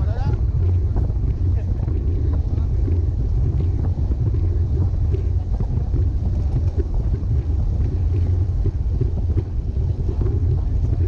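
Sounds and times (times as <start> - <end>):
bike tyres on asphalt: 0.0 - 11.0
wind buffeting microphone: 0.0 - 11.0.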